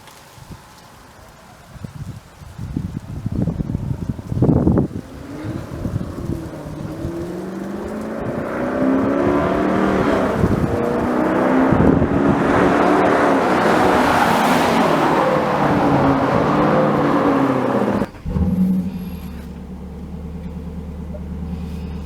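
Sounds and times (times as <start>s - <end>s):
car engine exhaust revving: 3.5s - 22.0s.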